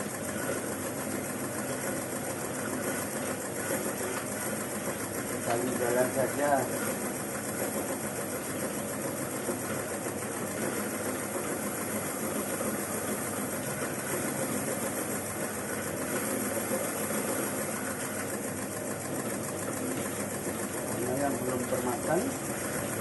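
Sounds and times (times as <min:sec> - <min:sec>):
stripping machine running: 0:00.0 - 0:23.0.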